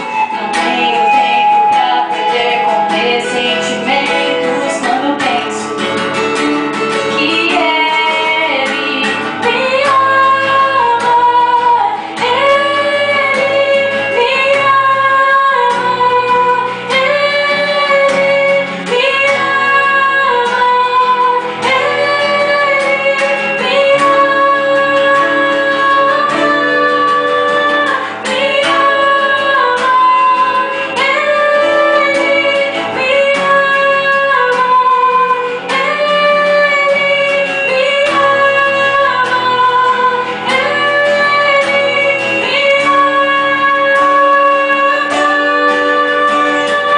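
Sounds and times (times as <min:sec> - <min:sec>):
guitar accompaniment: 0:00.0 - 0:46.9
woman singing: 0:00.0 - 0:46.9.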